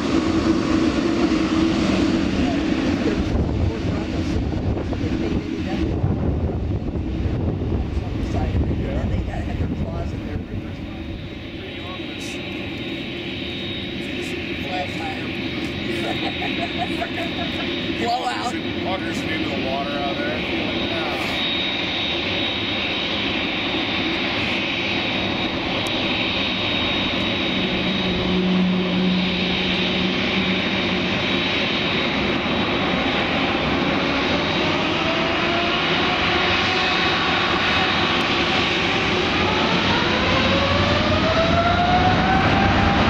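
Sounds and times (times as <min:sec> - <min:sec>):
high engine whine: 0:00.0 - 0:43.0
jet engines rushing: 0:00.0 - 0:43.0.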